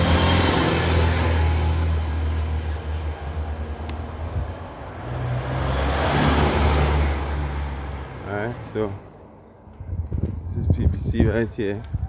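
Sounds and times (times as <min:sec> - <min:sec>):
vehicle engine drone: 0:00.0 - 0:10.1
tyre and road noise: 0:00.0 - 0:12.0.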